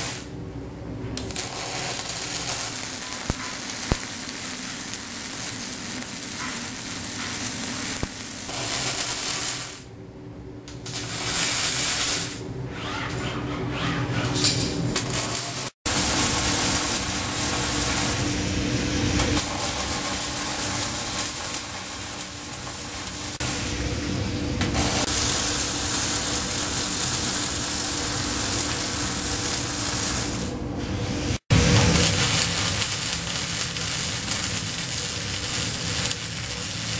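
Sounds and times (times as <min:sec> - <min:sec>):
welding arc hissing and crackling: 0:00.0 - 0:00.4, 0:01.1 - 0:10.0, 0:10.7 - 0:12.5, 0:15.0 - 0:36.9.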